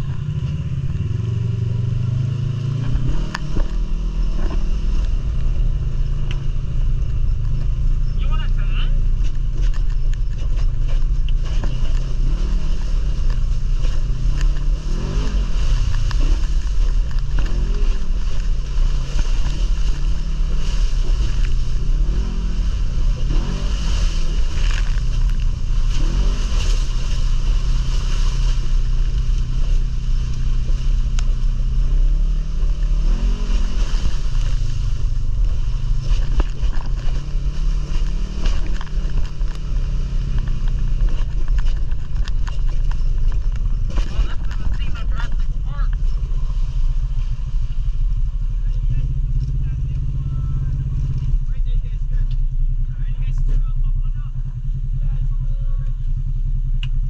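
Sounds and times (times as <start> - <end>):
atv engine revving: 0.0 - 57.0.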